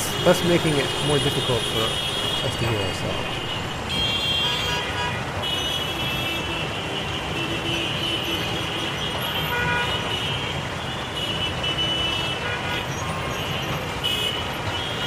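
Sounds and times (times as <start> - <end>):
dense city traffic: 0.0 - 15.0.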